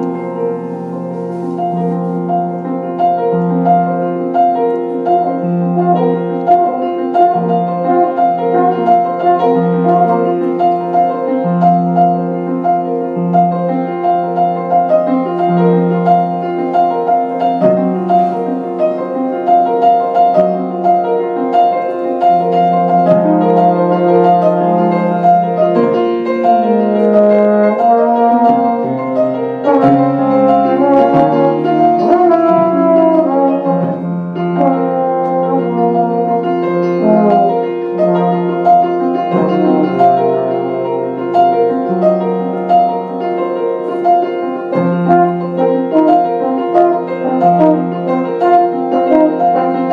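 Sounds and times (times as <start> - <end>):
slow solo piano: 0.0 - 49.9.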